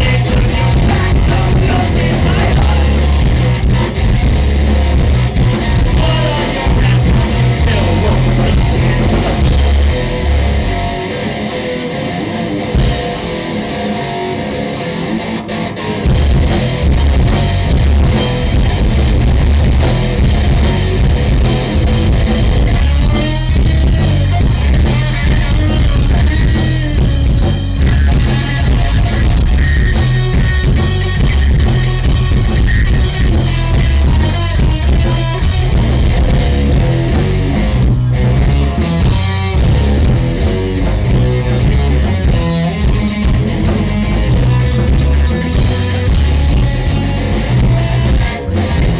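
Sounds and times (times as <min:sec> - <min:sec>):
drums and cymbals: 0:00.0 - 0:10.8, 0:12.8 - 0:13.8, 0:16.0 - 0:48.9
electric guitars: 0:00.0 - 0:48.9.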